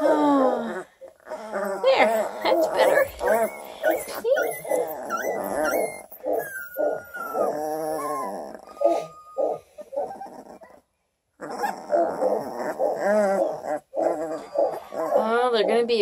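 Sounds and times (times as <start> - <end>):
puppies squeaking and whimpering: 0.0 - 16.0.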